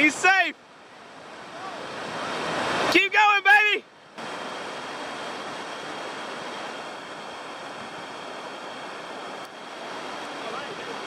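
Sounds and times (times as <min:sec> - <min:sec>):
river rapid rushing over rocks: 0:00.0 - 0:11.0.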